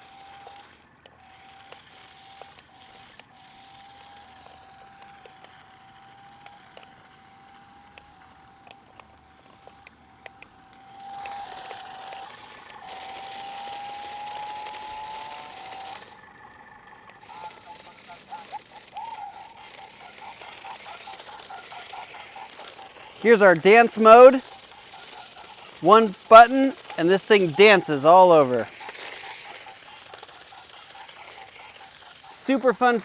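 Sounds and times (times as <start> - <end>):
toy car electric motors whining: 0.0 - 33.0.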